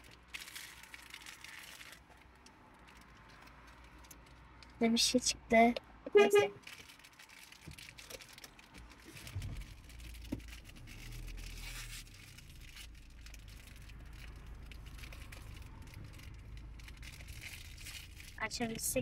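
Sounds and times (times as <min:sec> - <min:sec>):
plastic packaging crinkling: 0:00.0 - 0:04.6, 0:06.6 - 0:18.8
low steady rumble: 0:00.0 - 0:19.0.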